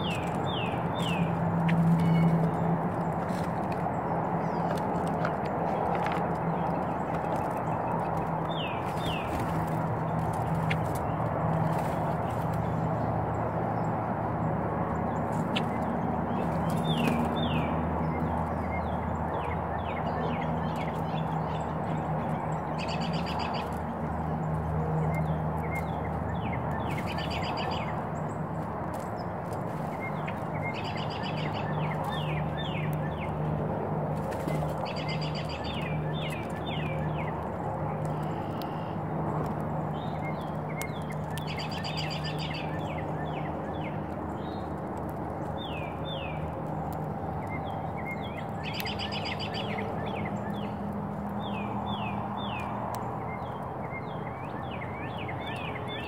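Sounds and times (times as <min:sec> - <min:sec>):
songbird chirps: 0:00.0 - 0:56.0.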